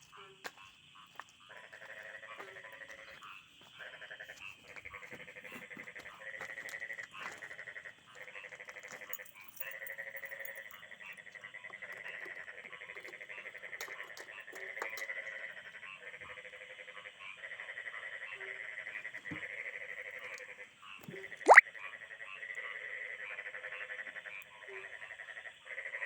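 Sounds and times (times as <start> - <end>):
frogs trilling in chorus: 0.0 - 26.0.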